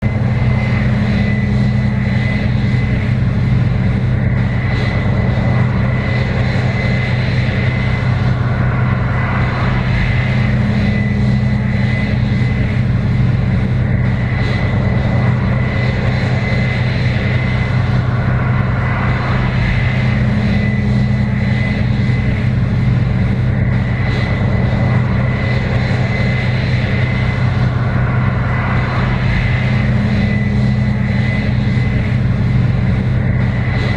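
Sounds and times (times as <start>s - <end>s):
deep machine hum: 0.0s - 33.9s
diesel engine drone: 0.0s - 33.9s
steady high whine: 0.0s - 33.9s.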